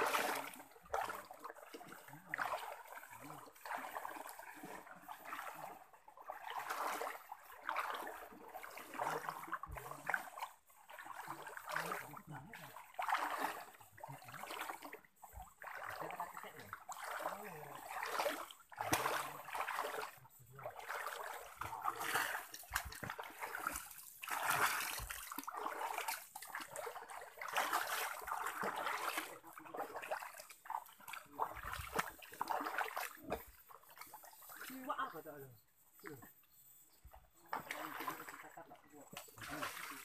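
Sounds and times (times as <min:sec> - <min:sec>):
legs wading through water: 0:00.0 - 0:40.0.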